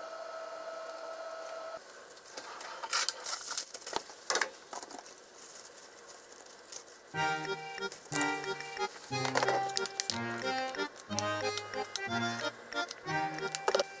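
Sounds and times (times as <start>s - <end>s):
foil and cling film crinkling: 1.8s - 14.0s.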